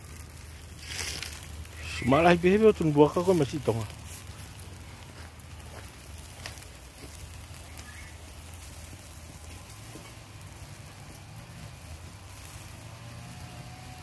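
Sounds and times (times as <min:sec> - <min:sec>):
sharp fire pops: 0:00.0 - 0:13.6
wood fire crackling and hissing: 0:00.0 - 0:14.0.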